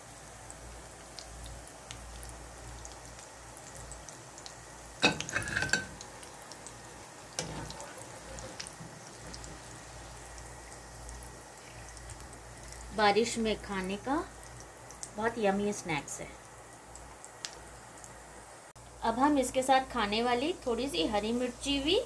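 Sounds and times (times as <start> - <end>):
deep-frying sizzle: 0.0 - 22.0.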